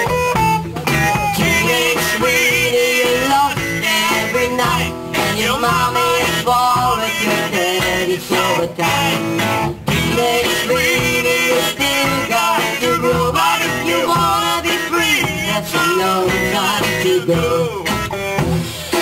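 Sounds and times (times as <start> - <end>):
electric guitar: 0.0 - 19.0
live band dance music: 0.0 - 19.0.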